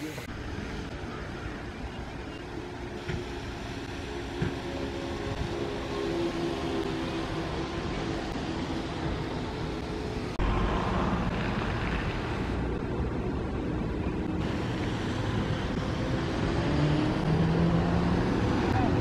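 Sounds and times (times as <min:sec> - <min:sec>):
bus humming with held tones: 0:00.0 - 0:19.0
bus road noise driving past: 0:00.0 - 0:19.0.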